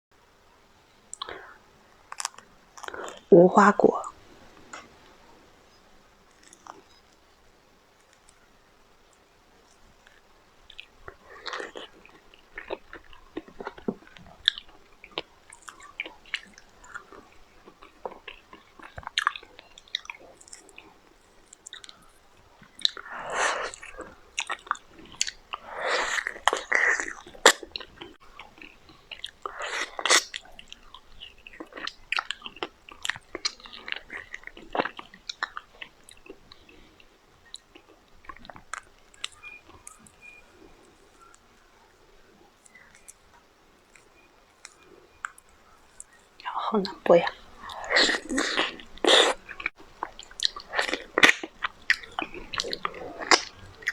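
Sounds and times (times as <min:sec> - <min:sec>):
person chewing meat: 0:01.1 - 0:03.3, 0:09.2 - 0:53.9.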